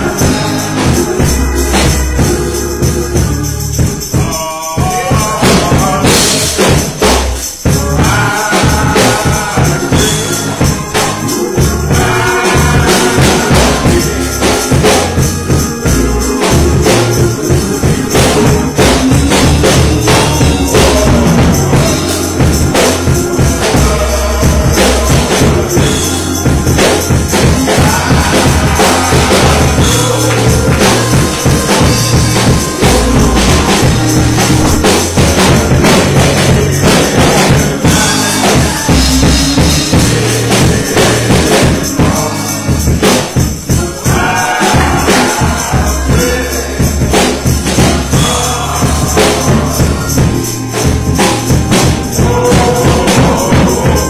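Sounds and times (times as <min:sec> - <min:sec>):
heavy stepping bass line: 0:00.0 - 0:54.0
jingling struck percussion: 0:00.0 - 0:54.0
keyboard: 0:00.0 - 0:54.0.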